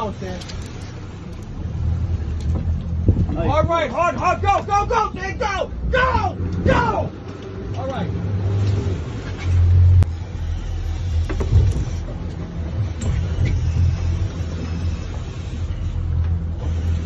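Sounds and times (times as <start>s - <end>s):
outboard engines humming: 0.0s - 17.0s
wind and water hiss: 0.0s - 17.0s.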